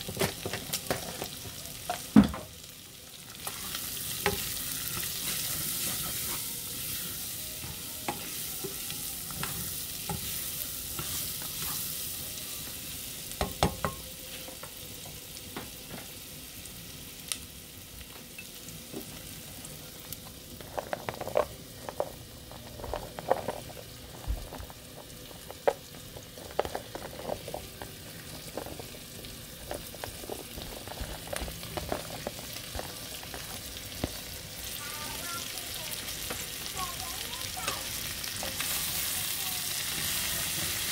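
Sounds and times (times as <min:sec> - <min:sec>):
meat and vegetables sizzling in pot: 0:00.0 - 0:40.9.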